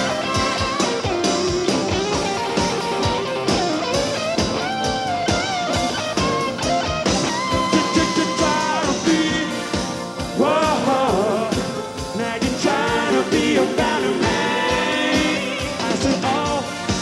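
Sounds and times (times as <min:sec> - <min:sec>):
electric guitar lead with bent notes: 0:00.0 - 0:17.0
rock band playing: 0:00.0 - 0:17.0
steady drum beat: 0:00.0 - 0:17.0.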